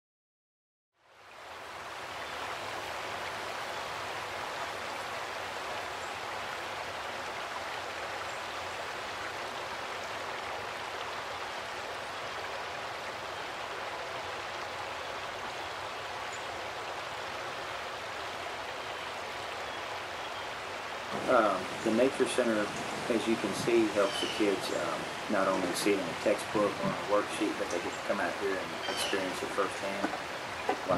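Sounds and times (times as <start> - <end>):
running water rushing: 1.0 - 30.9.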